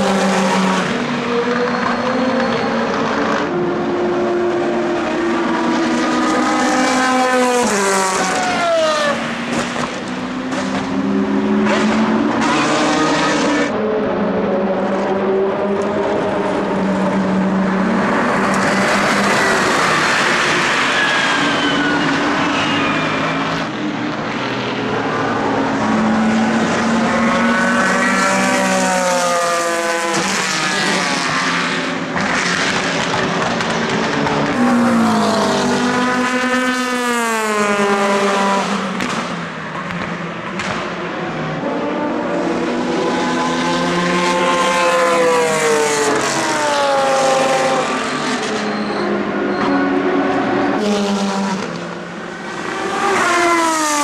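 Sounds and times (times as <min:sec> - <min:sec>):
race cars passing at speed: 0:00.0 - 0:54.0.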